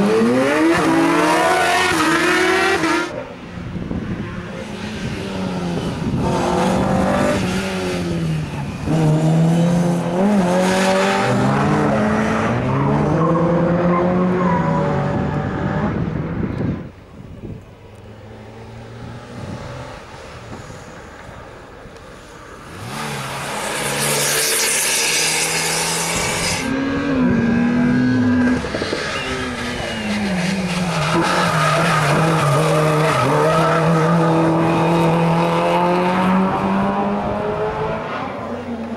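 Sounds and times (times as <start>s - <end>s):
rally car engines revving: 0.0s - 16.9s, 22.5s - 38.9s.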